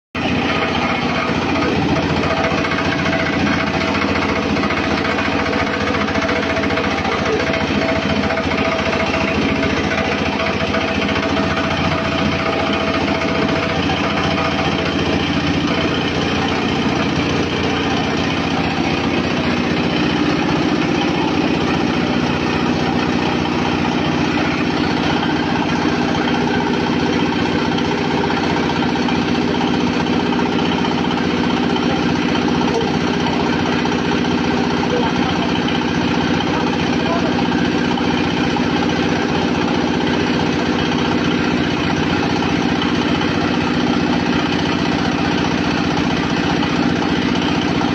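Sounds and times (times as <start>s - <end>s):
pellet mill rattling: 0.2s - 47.9s.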